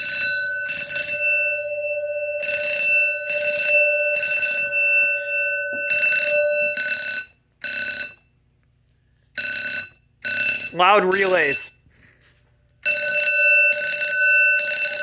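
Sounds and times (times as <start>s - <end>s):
fire alarm blasts: 0.0s - 8.2s, 9.4s - 11.8s, 12.8s - 15.0s
steady alarm tone: 0.0s - 8.2s, 9.4s - 11.8s, 12.8s - 15.0s.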